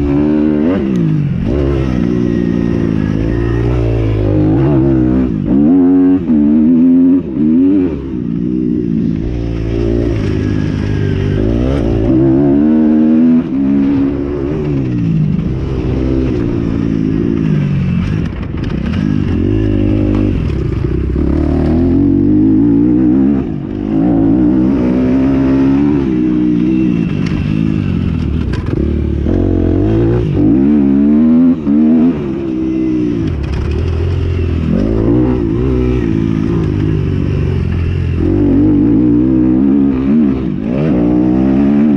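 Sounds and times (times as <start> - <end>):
motocross bikes revving: 0.0 - 41.9.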